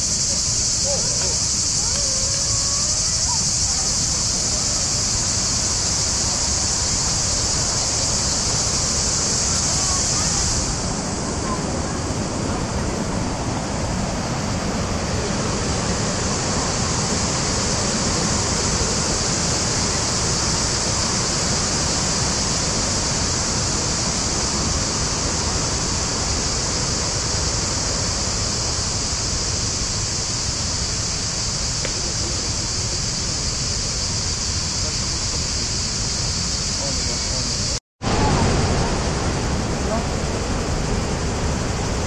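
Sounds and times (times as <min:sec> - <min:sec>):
waterfall roaring: 0:00.0 - 0:42.0.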